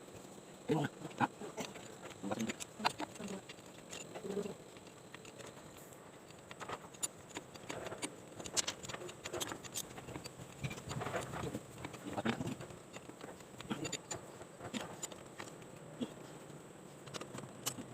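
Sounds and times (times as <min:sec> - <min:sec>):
hand tools clicking on metal parts: 0:01.1 - 0:15.9, 0:17.0 - 0:17.9.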